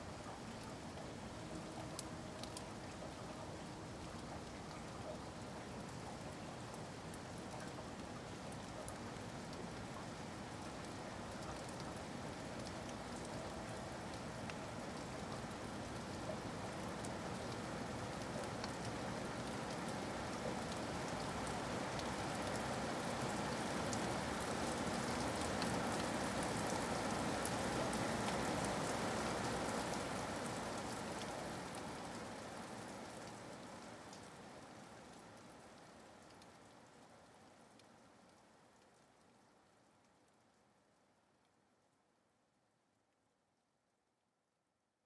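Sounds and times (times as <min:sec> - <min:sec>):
steady rain falling: 0:00.0 - 0:42.1.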